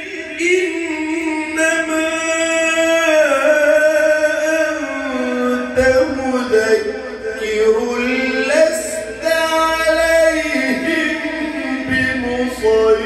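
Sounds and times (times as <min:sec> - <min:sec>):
man reciting in melodic style: 0:00.0 - 0:13.0.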